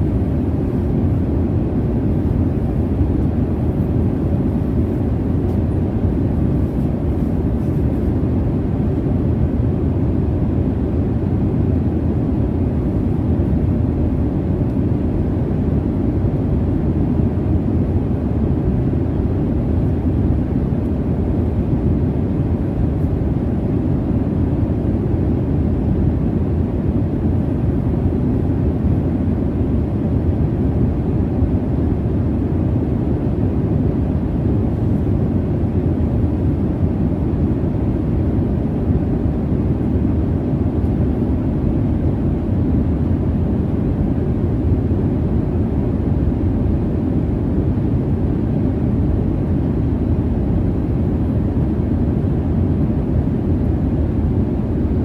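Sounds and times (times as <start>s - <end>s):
jet airliner cabin rumble: 0.0s - 55.0s.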